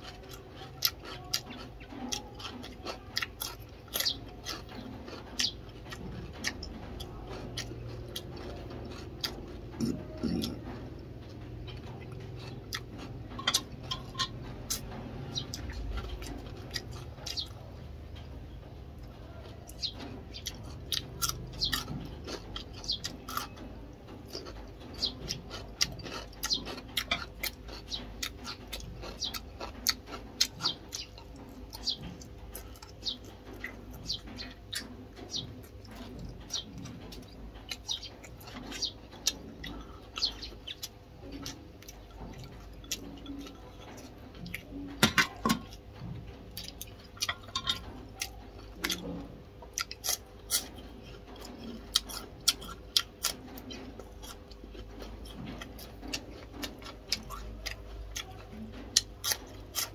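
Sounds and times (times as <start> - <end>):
crisp cucumber crunching: 0.0 - 18.3, 19.0 - 59.9.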